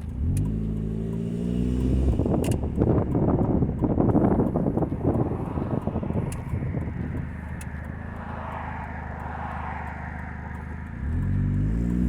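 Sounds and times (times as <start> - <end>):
car engine with exhaust leak: 0.0 - 12.0
road noise: 0.0 - 12.0.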